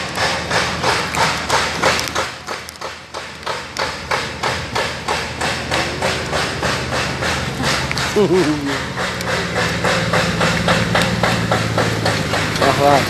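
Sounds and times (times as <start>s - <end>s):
sharp knocks: 0.0s - 13.0s.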